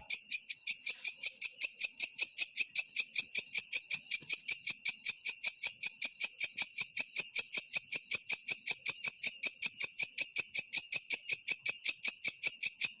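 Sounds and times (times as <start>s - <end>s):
katydid ticking chirps: 0.0s - 13.0s.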